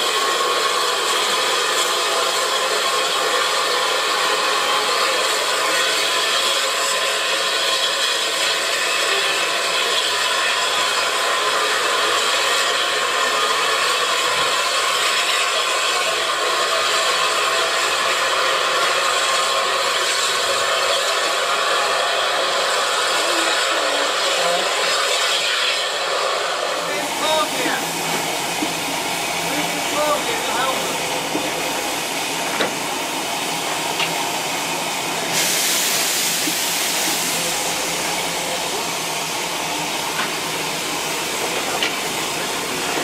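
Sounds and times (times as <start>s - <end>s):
steam locomotive hissing: 0.0s - 43.0s.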